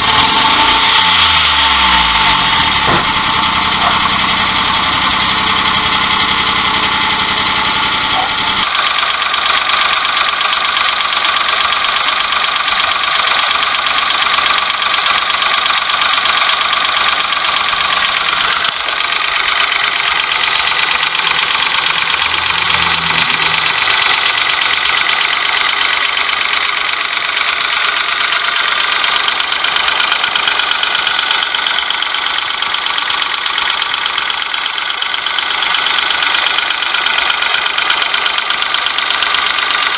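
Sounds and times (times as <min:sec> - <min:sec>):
harsh high-pitched engine noise: 0:00.0 - 0:39.9
small engine running: 0:00.0 - 0:39.9.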